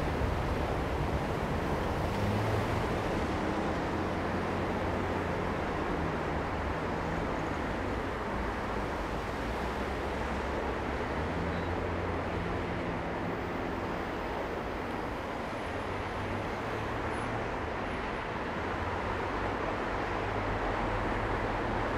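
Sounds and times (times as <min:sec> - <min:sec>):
cars passing with engine hum: 0:00.0 - 0:21.9
tyre and road noise: 0:00.0 - 0:21.9.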